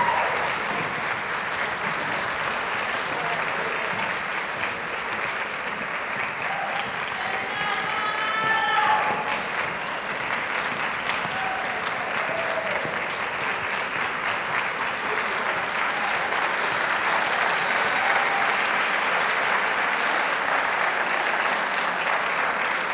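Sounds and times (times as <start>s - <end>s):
audience applauding: 0.0s - 22.9s.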